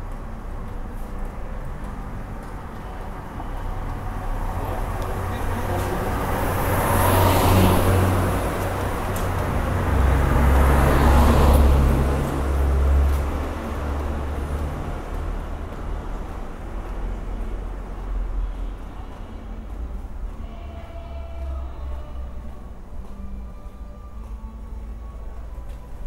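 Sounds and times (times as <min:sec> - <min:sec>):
car tyre noise passing: 0:00.0 - 0:23.1
vehicle engine rumble passing: 0:00.0 - 0:26.0.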